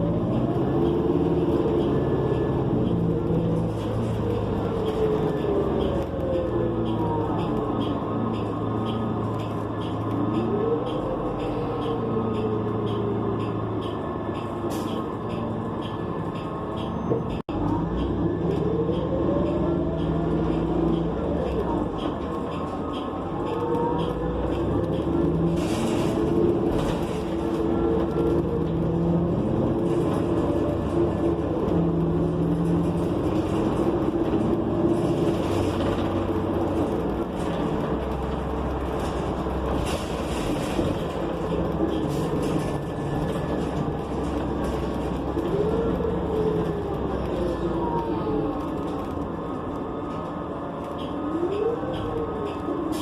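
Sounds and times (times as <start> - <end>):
bus drivetrain whine: 0.0 - 53.0
road noise in cabin: 0.0 - 53.0.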